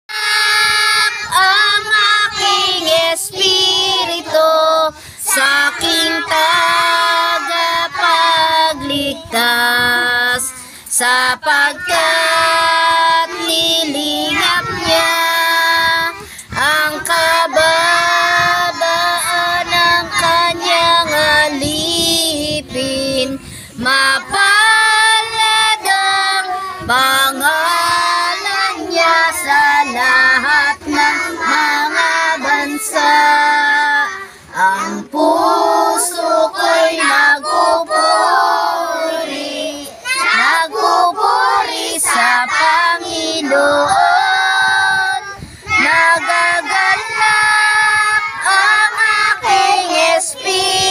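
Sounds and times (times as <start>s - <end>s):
children singing: 0.1s - 50.9s.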